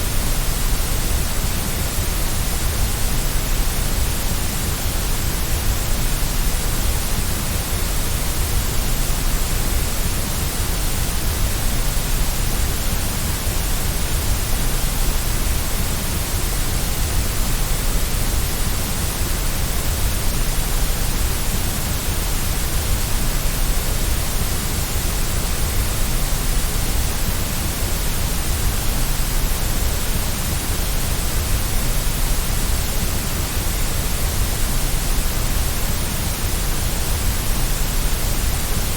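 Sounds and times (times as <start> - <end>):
electronic white noise hiss: 0.0 - 38.9.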